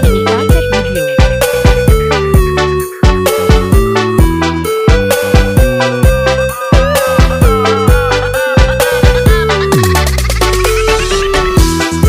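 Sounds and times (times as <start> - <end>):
electronic pop music: 0.0 - 12.0.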